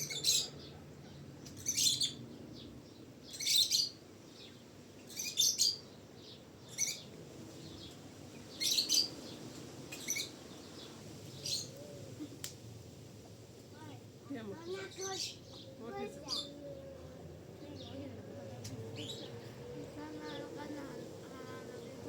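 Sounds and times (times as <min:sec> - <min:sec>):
bird chirping: 0:00.0 - 0:12.0, 0:14.6 - 0:22.0.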